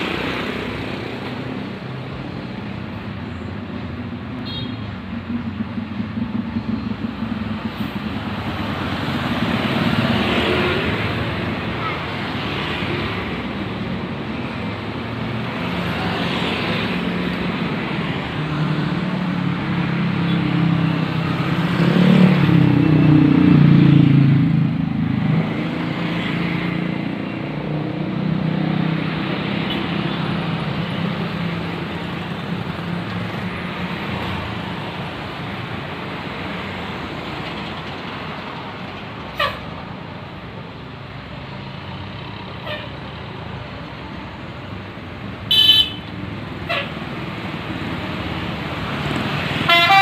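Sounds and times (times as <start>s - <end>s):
roadside traffic: 0.0s - 50.0s.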